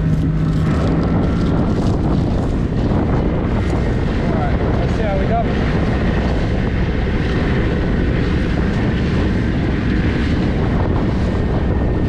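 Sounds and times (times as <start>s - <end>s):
outboard engine running: 0.0s - 12.0s
rushing water: 0.0s - 12.0s
wind noise on microphone: 0.0s - 12.0s.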